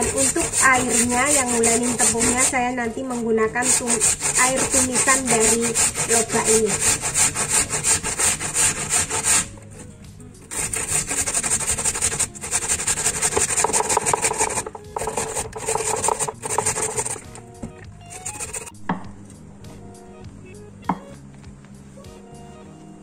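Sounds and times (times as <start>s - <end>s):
radish grating on metal grater: 0.0s - 18.8s.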